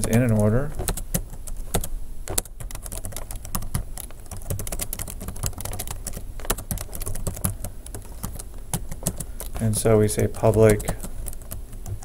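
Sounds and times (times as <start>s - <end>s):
typing on a keyboard: 0.0s - 12.0s.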